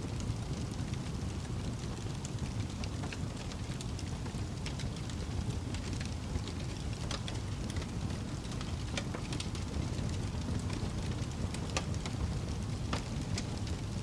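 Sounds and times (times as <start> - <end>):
fire crackling and popping: 0.0 - 14.0
low rumble of fire: 0.0 - 14.0.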